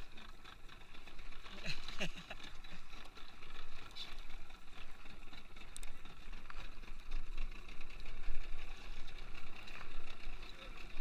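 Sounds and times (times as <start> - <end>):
boat engine rumble: 0.0 - 11.0
wind and water hiss: 0.0 - 11.0.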